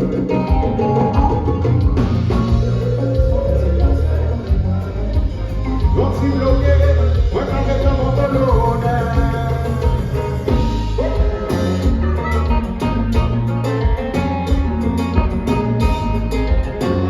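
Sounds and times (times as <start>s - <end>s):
live band bass-heavy groove: 0.0s - 17.0s.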